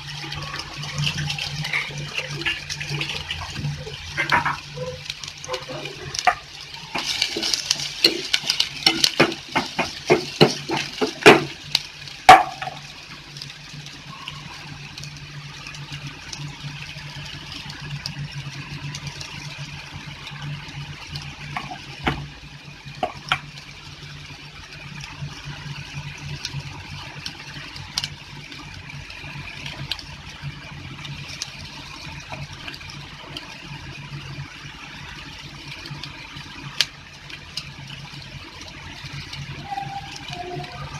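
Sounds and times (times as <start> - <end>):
onions sizzling in oil: 0.0 - 40.9.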